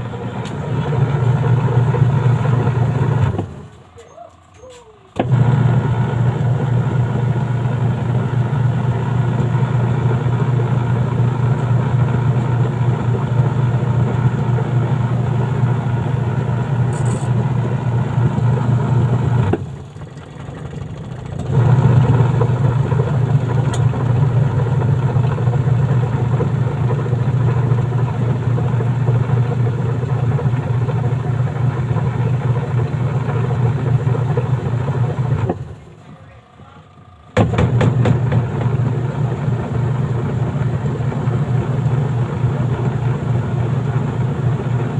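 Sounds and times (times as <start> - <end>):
washing machine motor humming: 0.0 - 44.9.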